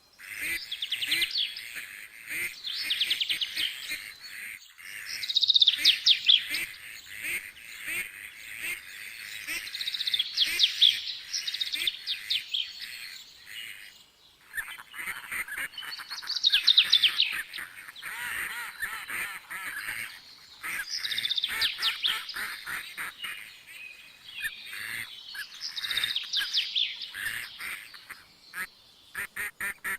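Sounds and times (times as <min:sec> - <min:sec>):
birds chirping and calling: 0:00.2 - 0:29.9.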